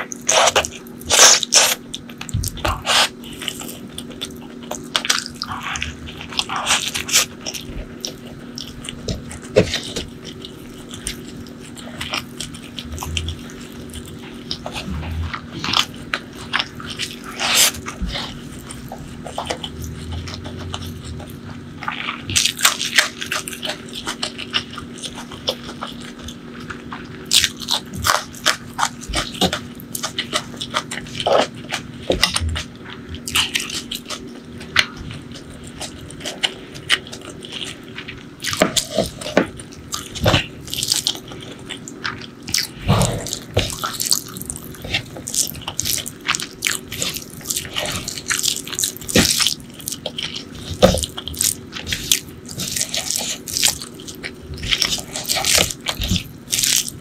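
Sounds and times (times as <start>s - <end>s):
biting and chewing: 0.0s - 57.0s.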